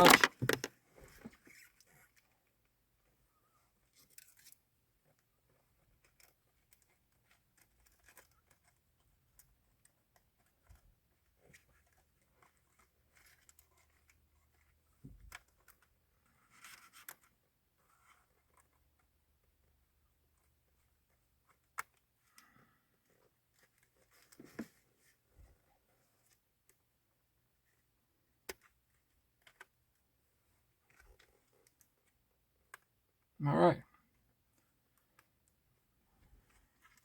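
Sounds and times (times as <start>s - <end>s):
faint plastic clicks and scratches: 0.0s - 33.3s, 33.9s - 37.0s.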